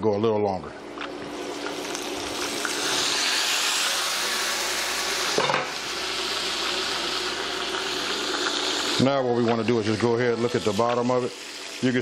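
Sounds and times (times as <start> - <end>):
chicken sizzling in hot oil: 1.3 - 12.0.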